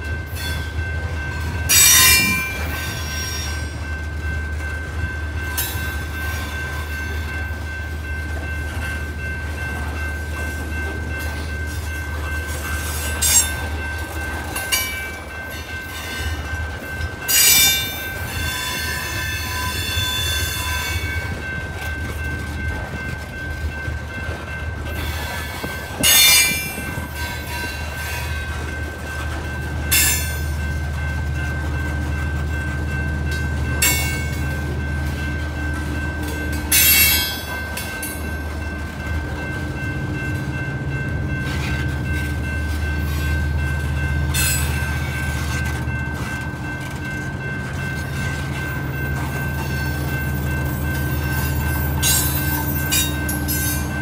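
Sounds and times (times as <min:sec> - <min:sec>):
train rolling past rumbling: 0:00.0 - 0:54.0.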